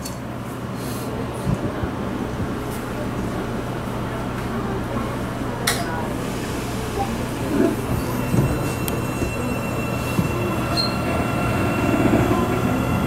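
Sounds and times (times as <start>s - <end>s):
train wheels rumbling: 1.3s - 13.0s.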